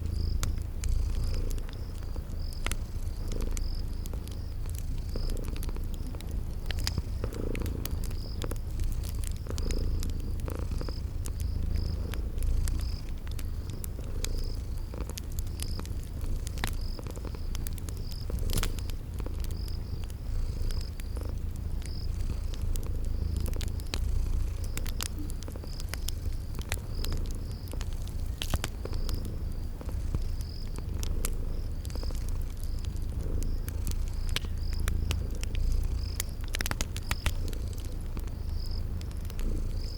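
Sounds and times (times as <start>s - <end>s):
cat purring: 0.0s - 39.9s
crickets chirping: 0.0s - 39.9s
wood fire crackling: 0.0s - 39.9s.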